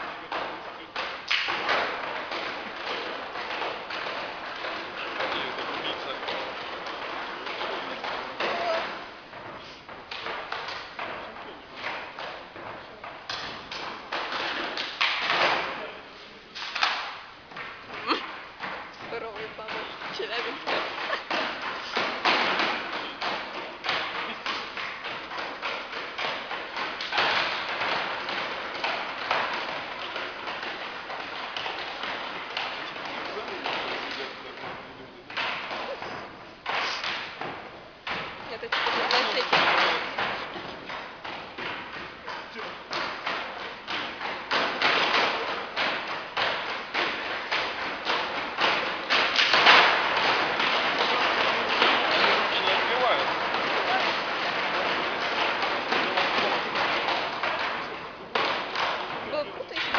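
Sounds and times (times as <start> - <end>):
knocks and thuds: 0.0 - 59.9.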